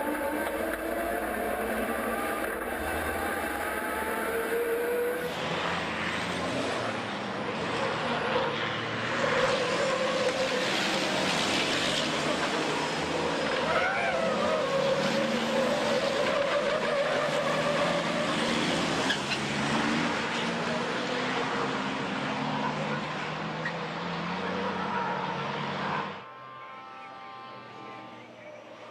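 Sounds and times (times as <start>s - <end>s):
diesel truck engines running hard: 0.0s - 26.2s.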